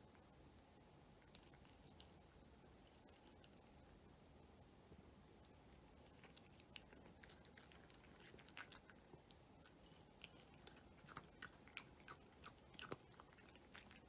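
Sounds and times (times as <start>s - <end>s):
cat chewing dry kibble: 0.0s - 4.0s, 5.6s - 14.0s.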